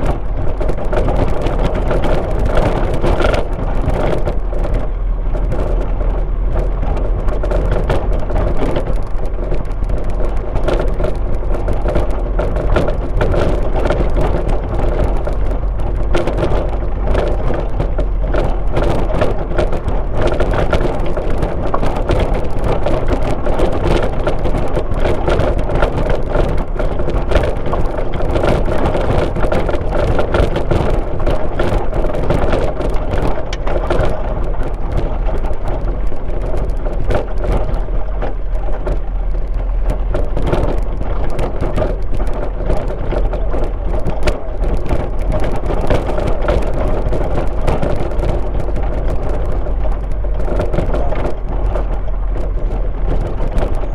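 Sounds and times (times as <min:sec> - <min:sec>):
car engine and tyre rumble: 0:00.0 - 0:53.9
small ticks and knocks: 0:00.0 - 0:53.9.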